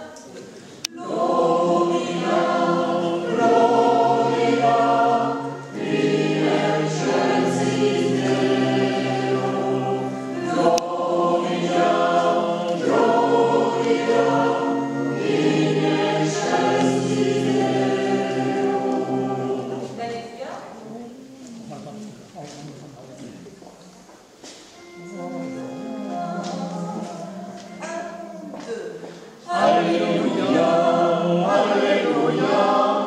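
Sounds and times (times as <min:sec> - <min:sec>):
church choir singing: 0:00.8 - 0:20.3, 0:24.8 - 0:28.6, 0:29.3 - 0:33.0.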